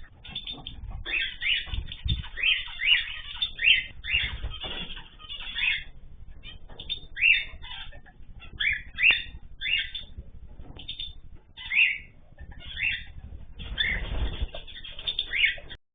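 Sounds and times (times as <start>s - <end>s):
cage birds calling: 0.0s - 15.8s
low background rumble: 0.0s - 15.8s.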